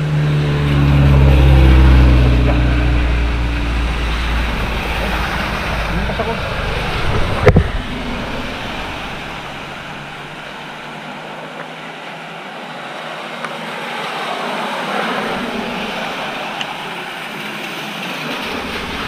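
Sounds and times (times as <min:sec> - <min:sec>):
vehicle passing on wet road: 0:00.0 - 0:19.0.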